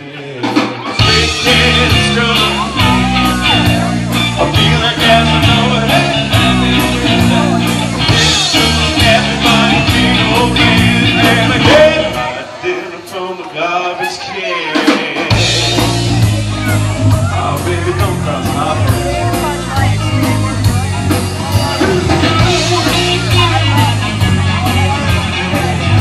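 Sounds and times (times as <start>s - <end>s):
bass: 0.0s - 12.6s, 14.8s - 26.0s
electric guitars: 0.0s - 26.0s
man singing: 0.0s - 26.0s
drum kit beat: 0.2s - 13.2s, 14.6s - 26.0s.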